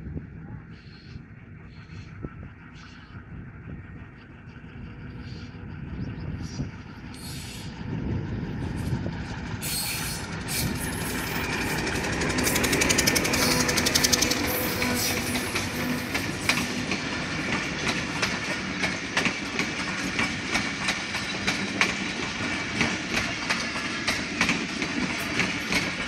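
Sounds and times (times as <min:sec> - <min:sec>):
diesel locomotive engine: 0:00.0 - 0:26.0.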